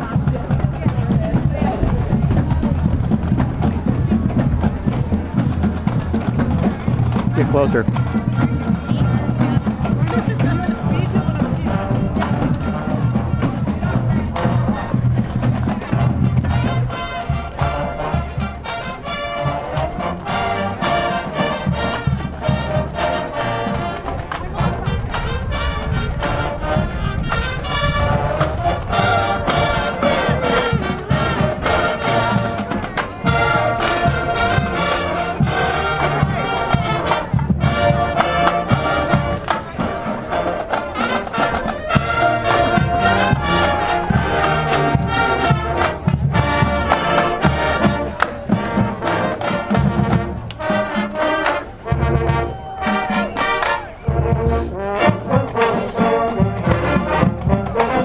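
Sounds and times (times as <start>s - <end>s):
drumline beat: 0.0s - 58.0s
trombones and trumpets: 0.0s - 58.0s.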